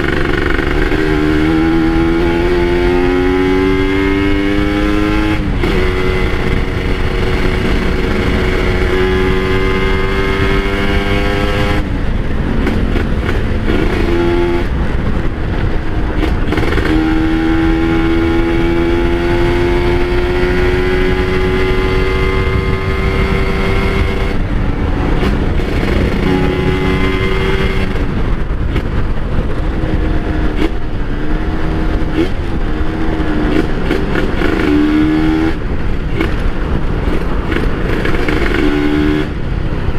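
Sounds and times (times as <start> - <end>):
low rushing noise: 0.0 - 39.9
motorcycle engine revving through gears: 0.0 - 39.9.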